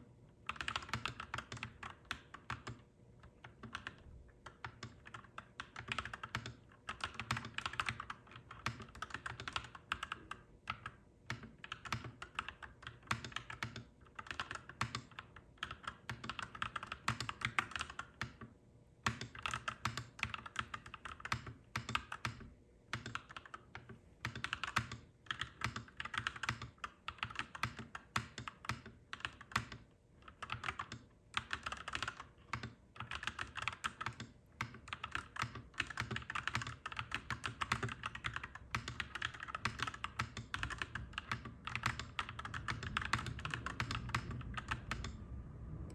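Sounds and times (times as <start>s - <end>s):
mechanical keyboard typing: 0.4s - 45.2s.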